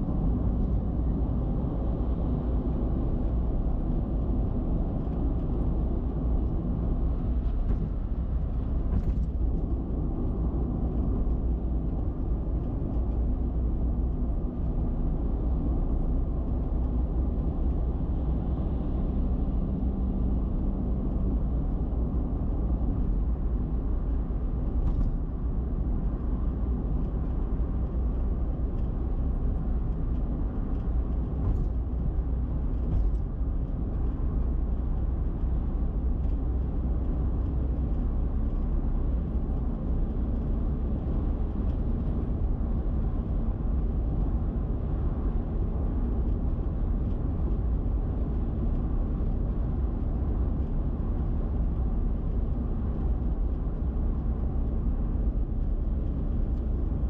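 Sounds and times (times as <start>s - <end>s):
car cruising on highway: 0.0s - 57.0s.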